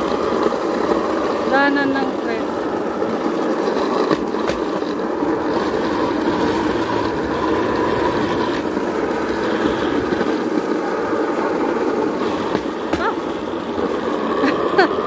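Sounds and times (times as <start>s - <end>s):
train running on track: 0.0s - 15.0s.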